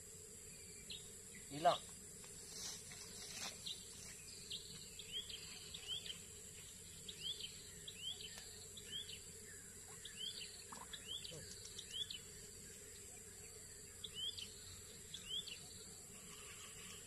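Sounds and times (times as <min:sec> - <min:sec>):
bird chirping: 0:00.4 - 0:01.8, 0:03.6 - 0:16.1.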